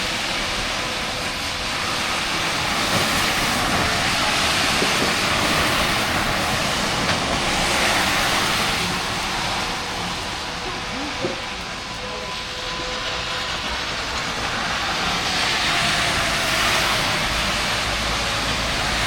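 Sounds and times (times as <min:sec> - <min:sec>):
distant air-raid siren: 0:00.0 - 0:19.0.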